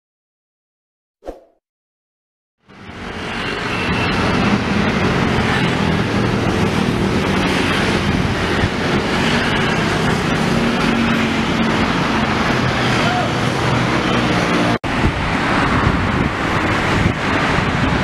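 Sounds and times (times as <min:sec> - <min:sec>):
road traffic passing: 0:02.6 - 0:18.0
bus engine hum: 0:02.7 - 0:18.0.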